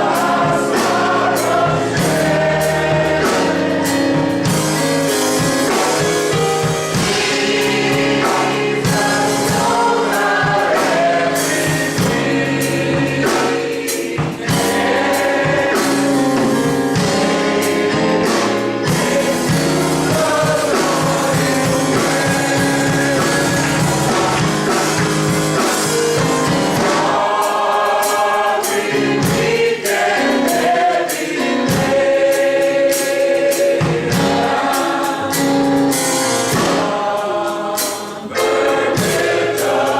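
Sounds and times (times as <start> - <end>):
gospel choir singing: 0.0 - 39.9
instrumental accompaniment with beat: 0.0 - 39.9.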